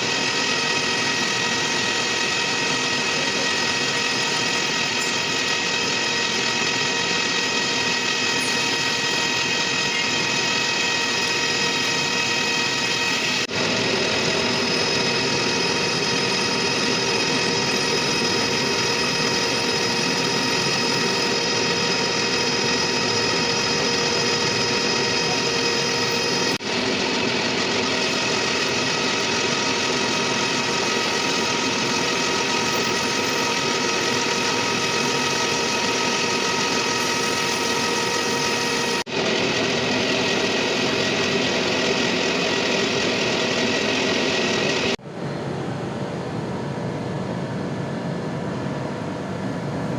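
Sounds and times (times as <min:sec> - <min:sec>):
machine tool machining metal: 0:00.0 - 0:45.0.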